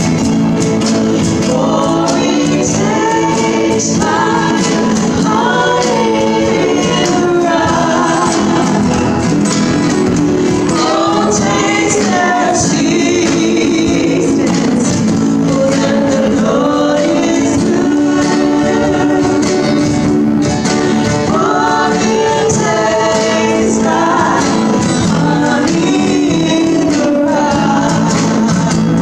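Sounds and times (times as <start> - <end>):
strummed acoustic guitars: 0.0 - 29.0
women singing together: 0.0 - 29.0.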